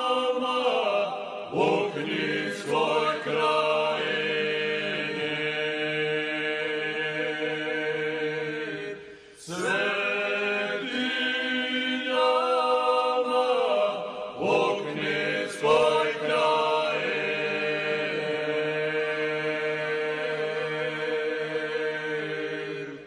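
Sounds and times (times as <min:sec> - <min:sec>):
slow chant-like singing: 0:00.0 - 0:23.0.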